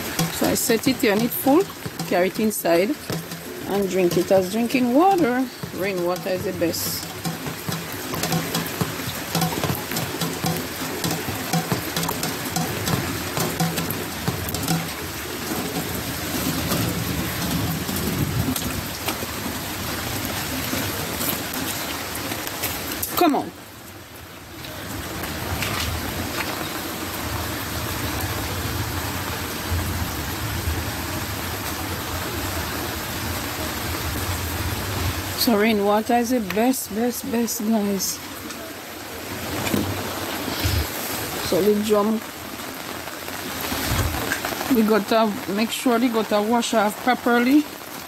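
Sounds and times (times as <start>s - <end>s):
water dripping: 0.0s - 29.2s, 32.8s - 48.0s
rain falling: 0.0s - 48.0s
raindrops clicking on hard surfaces: 0.0s - 48.0s.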